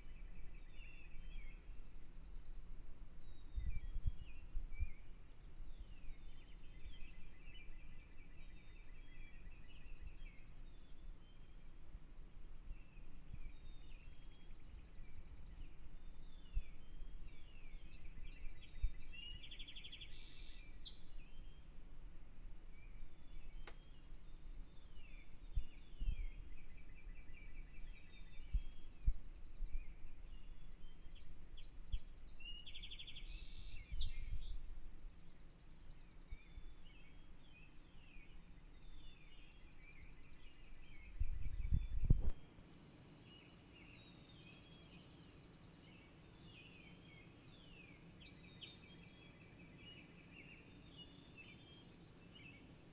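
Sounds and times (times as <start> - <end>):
songbirds chirping and singing: 0.0 - 52.9.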